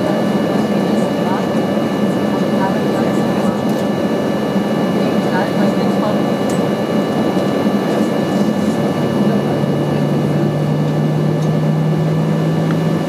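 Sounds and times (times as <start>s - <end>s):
jet engine whine and rush: 0.0s - 13.0s
low steady hum: 0.0s - 13.0s.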